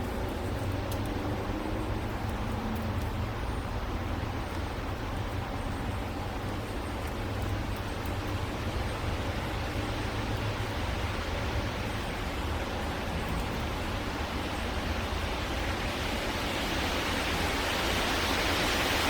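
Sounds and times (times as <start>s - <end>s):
steady low rumble with hiss: 0.0s - 19.0s.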